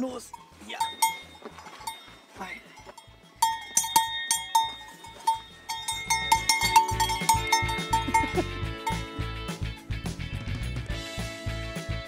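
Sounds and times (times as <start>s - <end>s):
calf collar bell clanking: 0.1s - 10.0s.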